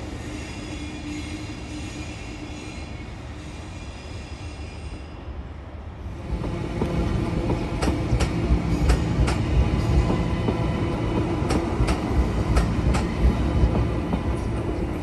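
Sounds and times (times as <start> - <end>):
train rumbling on tracks: 0.0 - 15.0.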